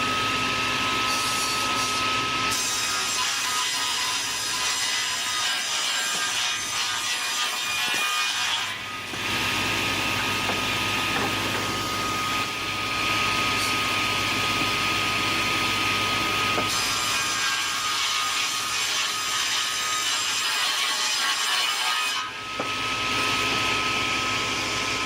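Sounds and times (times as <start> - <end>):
saw cutting wood with high whine: 0.0 - 25.0.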